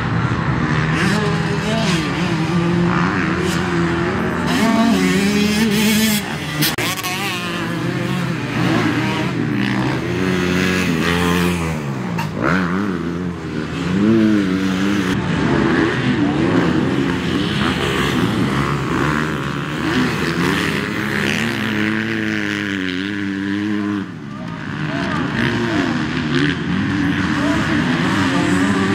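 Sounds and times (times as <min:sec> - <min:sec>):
motocross bikes revving: 0:00.0 - 0:28.9.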